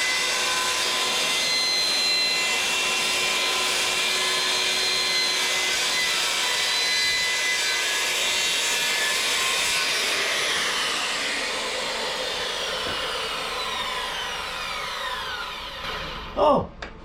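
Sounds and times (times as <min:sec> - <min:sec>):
power saw cutting tile: 0:00.0 - 0:16.4.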